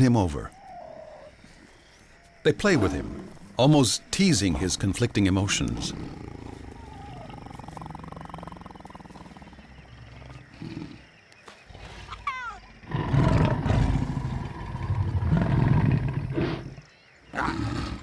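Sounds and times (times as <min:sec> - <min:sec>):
lions growling: 0:00.0 - 0:18.0.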